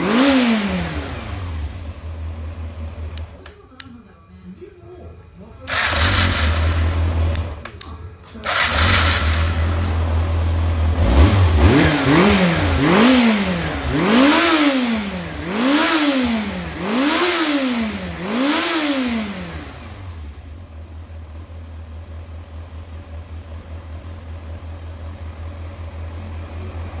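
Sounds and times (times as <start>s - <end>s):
motorcycle engine revving and idling: 0.0s - 3.5s, 5.6s - 7.8s, 8.4s - 27.0s.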